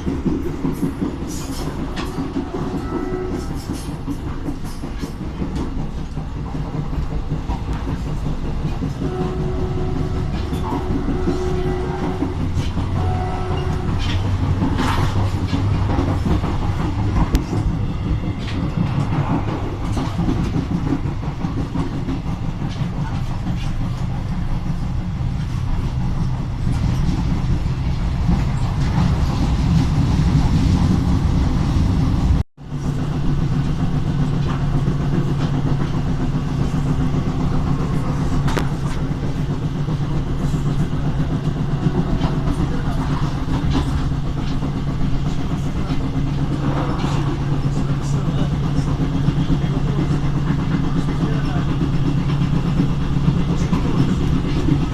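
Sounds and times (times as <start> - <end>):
diesel locomotive engine drone: 0.0 - 54.9
train rolling rail noise: 0.0 - 54.9.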